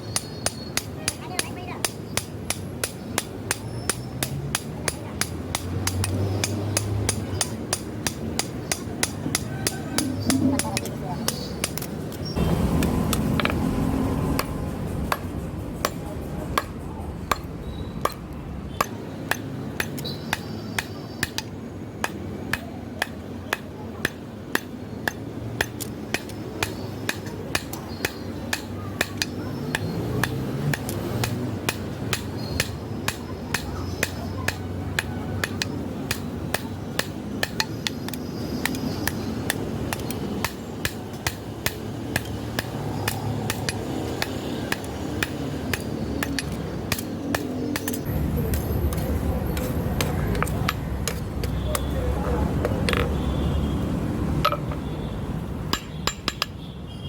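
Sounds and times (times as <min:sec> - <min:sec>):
hammer striking steel on anvil: 0:00.1 - 0:11.9, 0:18.8 - 0:51.9, 0:55.7 - 0:56.6.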